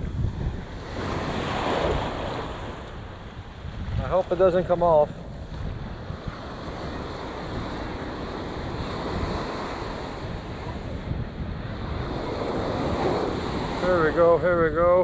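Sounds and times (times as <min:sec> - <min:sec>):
ocean surf breaking: 0:00.0 - 0:15.0
wind rumbling on microphone: 0:00.0 - 0:15.0.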